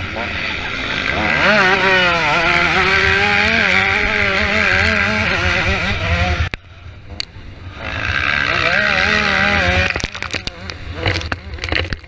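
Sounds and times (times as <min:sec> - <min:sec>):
motocross bike engine revving: 0:00.0 - 0:07.0, 0:07.6 - 0:12.0.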